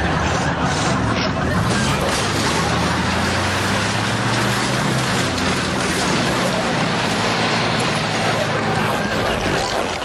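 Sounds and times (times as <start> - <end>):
broad rushing noise: 0.0 - 10.0
car engine running: 0.0 - 10.0.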